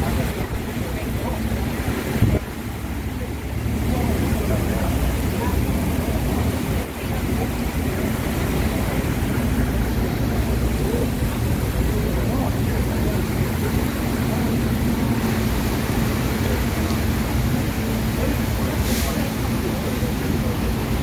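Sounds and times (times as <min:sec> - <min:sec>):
diesel vehicles driving past: 0:00.0 - 0:21.0
heavy rain hiss: 0:00.0 - 0:21.0.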